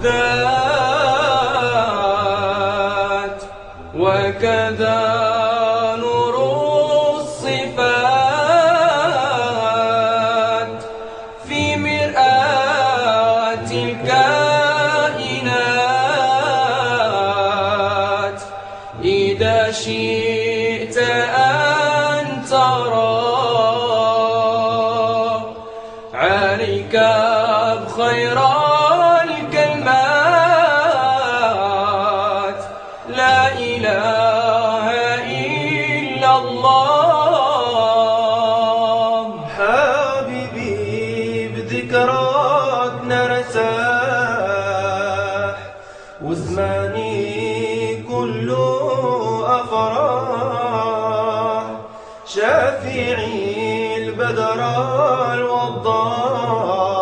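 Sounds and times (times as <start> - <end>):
men singing devotional chant: 0.0 - 57.0.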